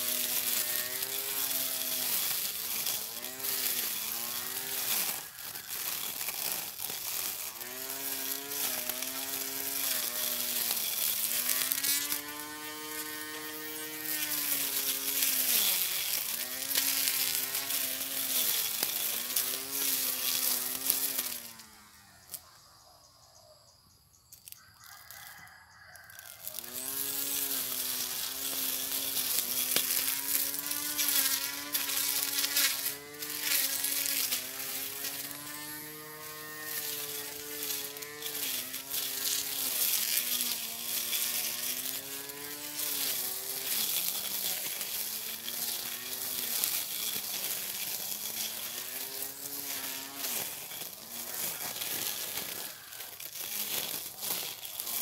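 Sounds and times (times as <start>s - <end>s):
electric grass cutter buzzing: 0.0s - 22.8s, 24.4s - 55.0s.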